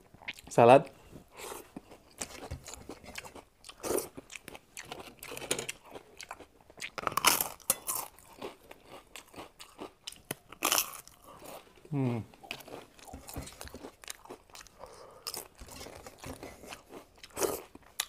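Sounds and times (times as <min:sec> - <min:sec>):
person chewing crunchy food: 0:00.0 - 0:00.5, 0:01.2 - 0:18.0.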